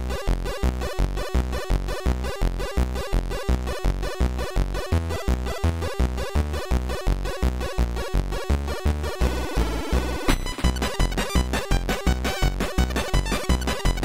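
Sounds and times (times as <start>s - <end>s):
techno synthesizer music: 0.0s - 14.0s.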